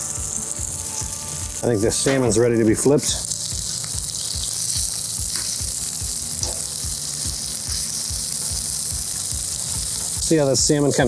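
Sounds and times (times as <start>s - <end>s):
fish sizzling on a griddle: 0.0s - 11.0s.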